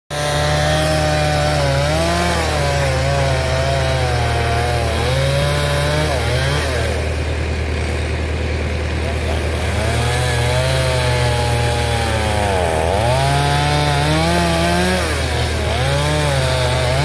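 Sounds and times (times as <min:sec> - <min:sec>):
chainsaw cutting wood: 0:00.1 - 0:17.0.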